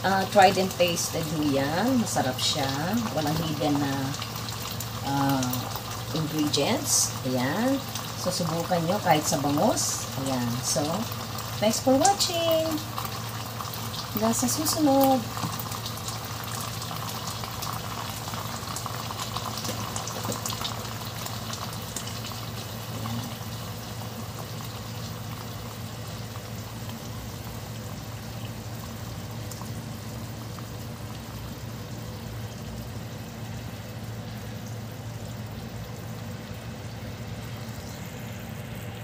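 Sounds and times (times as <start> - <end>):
sauce bubbling and popping in pan: 1.0 - 38.7.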